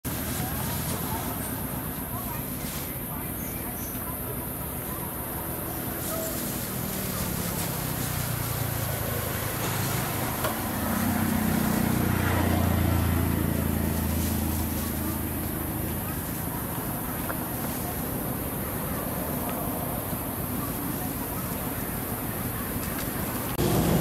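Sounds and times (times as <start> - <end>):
motor engine humming: 3.6 - 24.0.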